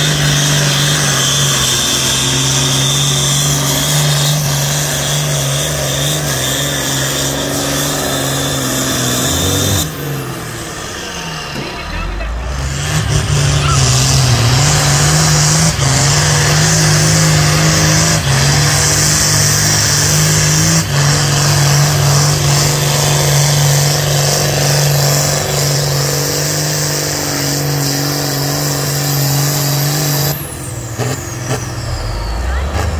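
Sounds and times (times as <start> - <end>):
tractor diesel engine under load: 0.0 - 32.9.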